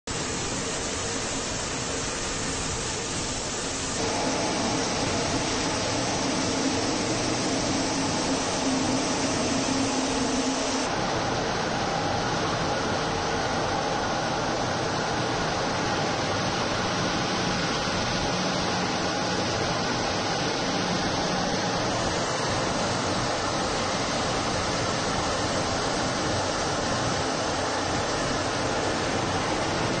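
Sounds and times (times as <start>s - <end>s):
jet engines and airflow rushing: 0.1s - 30.0s
faint steady hums: 0.2s - 30.0s.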